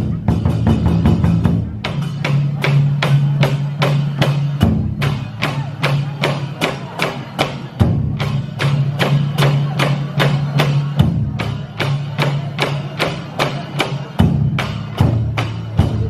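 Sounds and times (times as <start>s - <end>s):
percussive beat: 0.0s - 16.0s.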